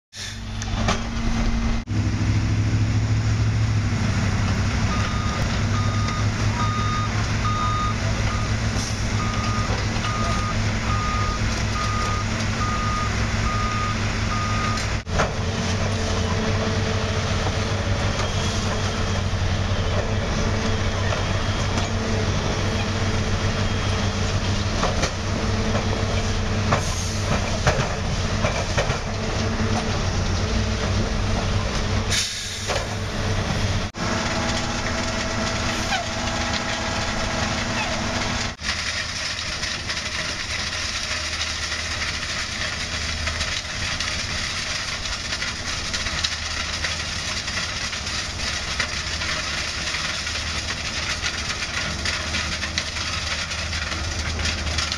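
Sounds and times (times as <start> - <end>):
diesel engines running: 0.1 - 54.9.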